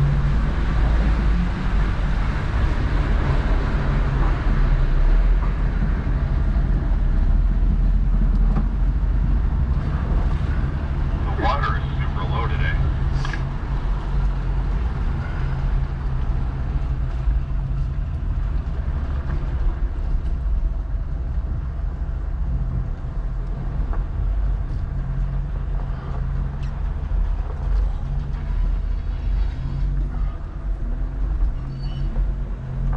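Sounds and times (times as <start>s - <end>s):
road noise: 0.0s - 32.9s
vehicle engine running: 4.9s - 32.9s.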